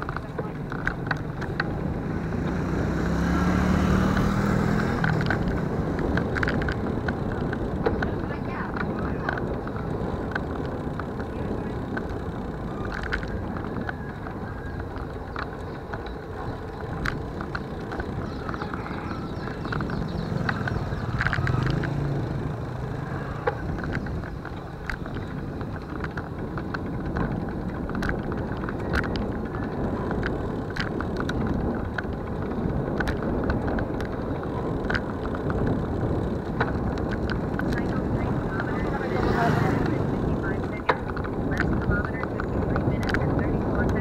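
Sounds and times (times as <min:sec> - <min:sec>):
clicks and rattles from bumps: 0:00.0 - 0:02.6, 0:04.1 - 0:44.0
road rumble: 0:00.0 - 0:44.0
wind: 0:00.0 - 0:44.0.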